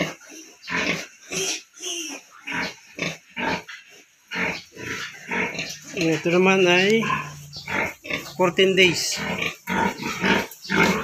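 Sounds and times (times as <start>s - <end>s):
sow and piglets grunting: 0.0s - 11.0s.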